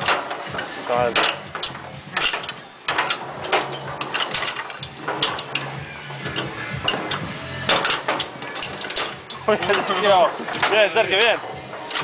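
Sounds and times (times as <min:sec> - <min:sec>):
foosball rods clacking and knocking: 0:00.0 - 0:12.0.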